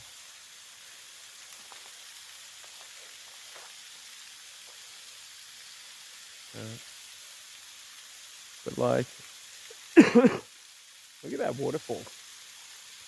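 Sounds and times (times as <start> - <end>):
waterfall hissing: 0.0 - 13.0.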